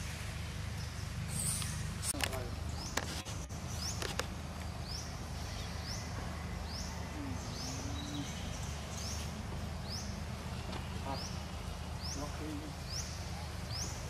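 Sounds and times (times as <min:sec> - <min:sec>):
bird chirping: 0:00.0 - 0:14.0
low outdoor rumble: 0:00.0 - 0:14.0.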